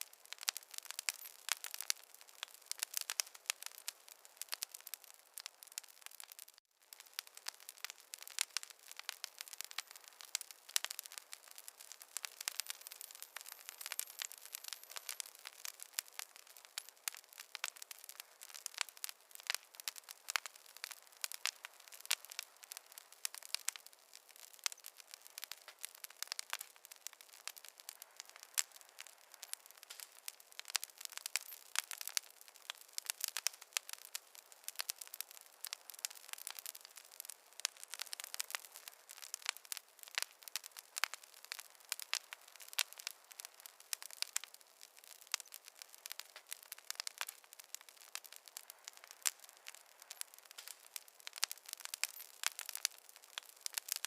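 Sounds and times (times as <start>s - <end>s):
fire crackling and popping: 0.0s - 54.0s
soft fire hiss: 0.0s - 54.0s.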